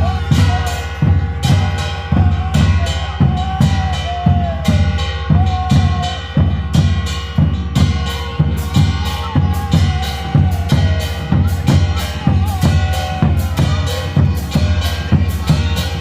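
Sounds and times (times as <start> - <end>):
drums beating steady rhythm: 0.0 - 16.0.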